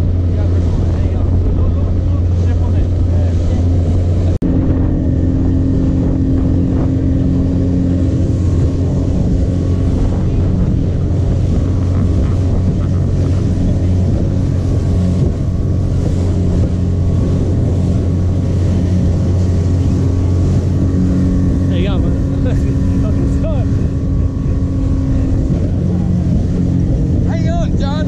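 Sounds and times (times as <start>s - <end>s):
motorboat engine running: 0.0s - 28.0s
wind buffeting microphone: 0.0s - 28.0s.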